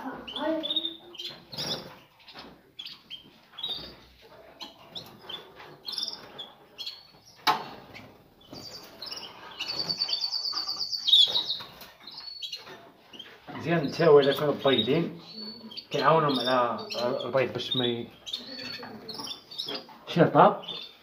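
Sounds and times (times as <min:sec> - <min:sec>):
bird trill: 0:00.0 - 0:19.9
songbirds chirping: 0:00.0 - 0:21.0.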